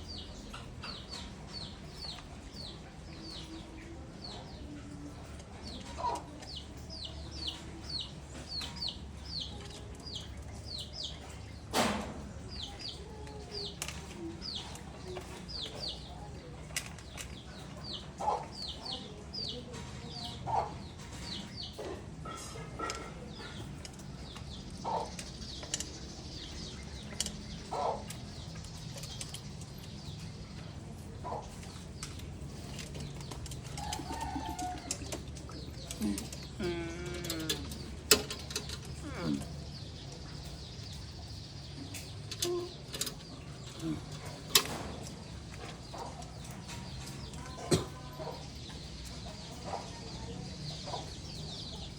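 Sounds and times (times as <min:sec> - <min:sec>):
pigeons calling: 0:00.0 - 0:51.9
steady low hum: 0:00.0 - 0:51.9.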